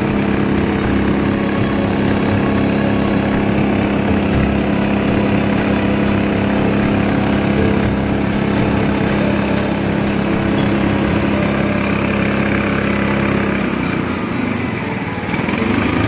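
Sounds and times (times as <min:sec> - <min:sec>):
motorboat engine drone: 0:00.0 - 0:16.0.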